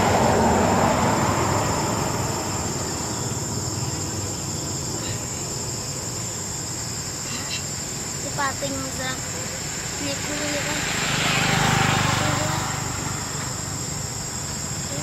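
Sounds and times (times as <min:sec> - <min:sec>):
broad rushing noise: 0:00.0 - 0:15.0
insects droning: 0:00.0 - 0:15.0.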